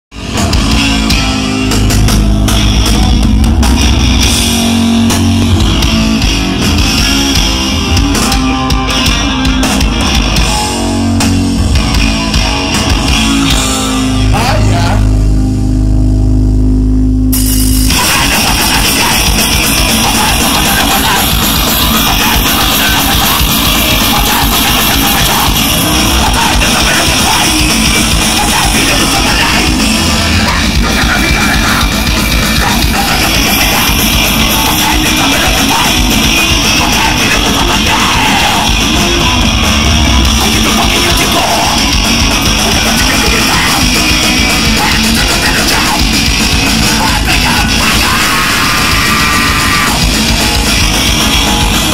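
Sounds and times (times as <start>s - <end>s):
bass guitar: 0.1s - 51.9s
drum kit: 0.1s - 51.9s
electric guitars: 0.1s - 51.9s.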